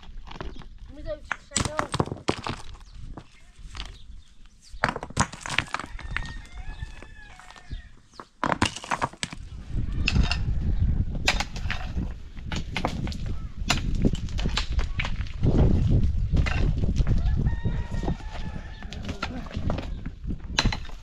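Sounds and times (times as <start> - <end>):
rocks clattering on a pile: 0.0 - 4.1, 4.8 - 10.4, 11.3 - 17.2, 18.1 - 21.0.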